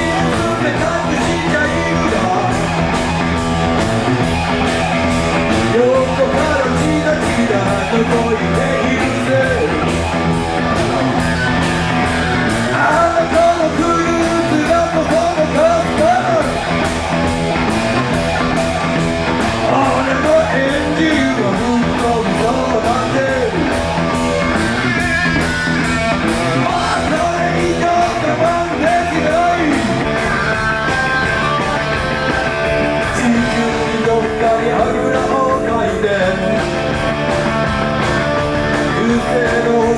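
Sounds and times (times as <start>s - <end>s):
bass guitar: 0.0s - 39.9s
lead electric guitar: 0.0s - 39.9s
steady drum beat: 0.0s - 39.9s.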